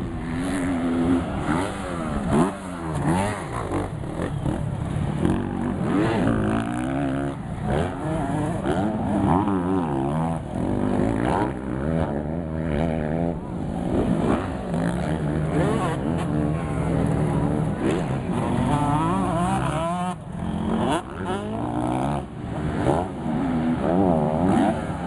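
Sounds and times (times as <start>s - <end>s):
motocross engines revving: 0.0s - 25.0s.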